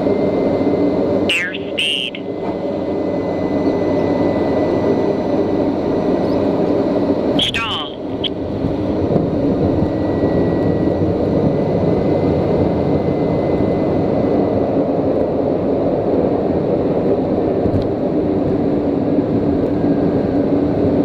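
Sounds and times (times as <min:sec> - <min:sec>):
turboprop cockpit noise: 0:00.0 - 0:21.0.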